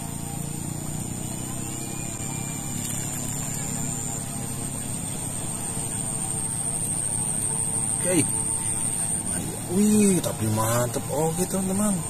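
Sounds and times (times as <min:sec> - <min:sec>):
high insect whine: 0:00.0 - 0:12.0
steady engine drone: 0:00.0 - 0:12.0.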